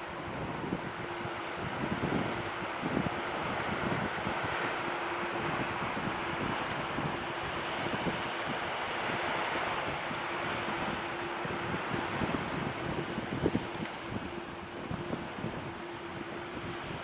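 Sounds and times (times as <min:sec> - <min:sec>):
faint steady hum: 0:00.0 - 0:17.0
surf washing on beach: 0:00.0 - 0:17.0
wind buffeting microphone: 0:00.0 - 0:17.0.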